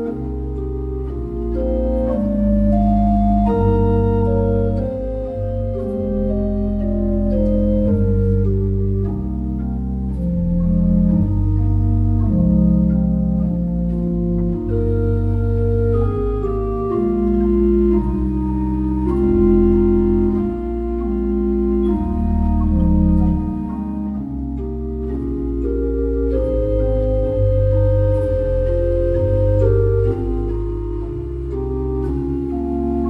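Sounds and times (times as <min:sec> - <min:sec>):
pipe organ playing chords: 0:00.0 - 0:33.0.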